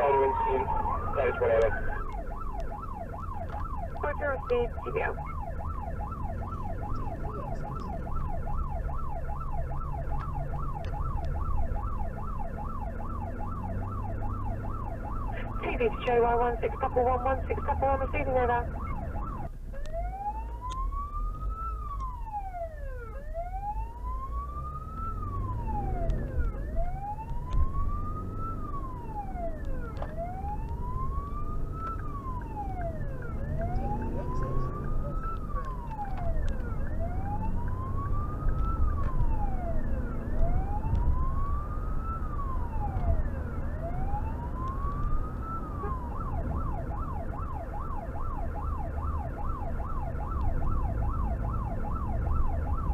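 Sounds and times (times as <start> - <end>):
electronic siren wailing and yelping: 0.0 - 52.9
vehicle engine and road noise: 0.0 - 52.9.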